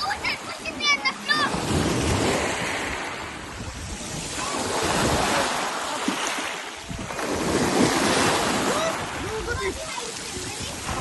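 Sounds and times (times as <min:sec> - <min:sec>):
wind buffeting microphone: 0:00.0 - 0:05.6, 0:06.7 - 0:11.0
waves breaking on beach: 0:00.0 - 0:11.0.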